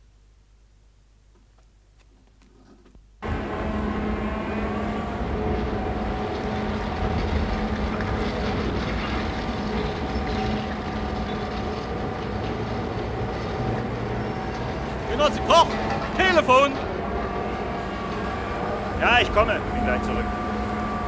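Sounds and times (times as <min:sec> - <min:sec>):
construction machinery engines humming: 0:03.2 - 0:21.0.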